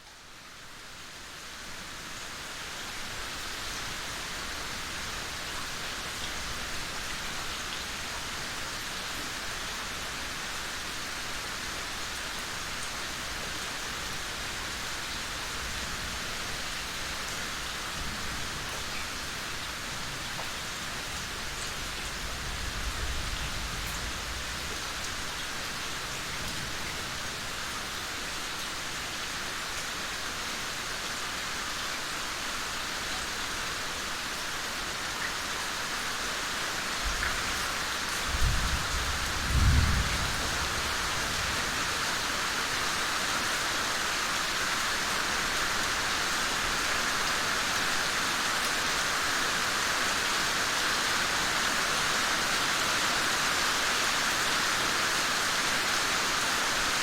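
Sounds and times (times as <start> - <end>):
heavy rainfall hiss: 0.0 - 57.0.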